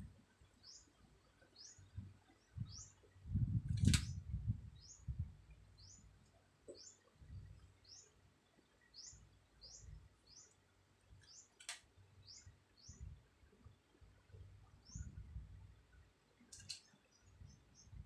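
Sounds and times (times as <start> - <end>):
small bird chirping: 0.4 - 15.4, 16.4 - 18.0.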